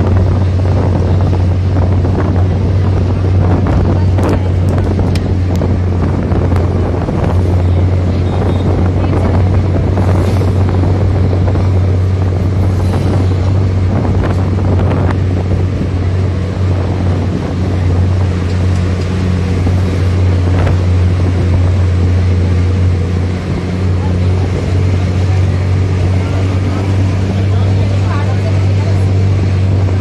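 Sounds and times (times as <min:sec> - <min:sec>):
vehicle engine droning: 0:00.0 - 0:30.0
wind buffeting microphone: 0:00.0 - 0:30.0.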